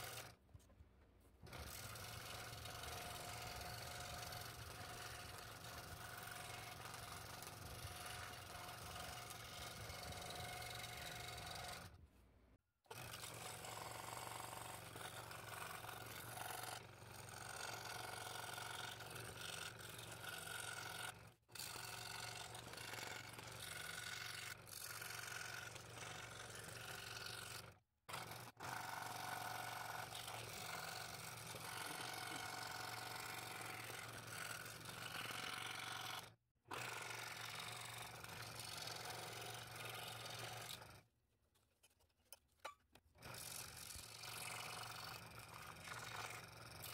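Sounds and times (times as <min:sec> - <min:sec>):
scroll saw cutting: 0:00.0 - 0:00.4, 0:01.4 - 0:12.0, 0:12.9 - 0:41.1, 0:41.9 - 0:46.9.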